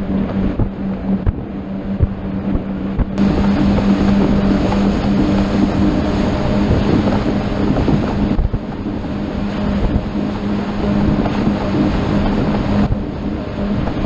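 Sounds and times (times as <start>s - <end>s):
boat engine humming: 0.0s - 14.0s
rushing water: 0.0s - 14.0s
wind on microphone: 0.0s - 14.0s.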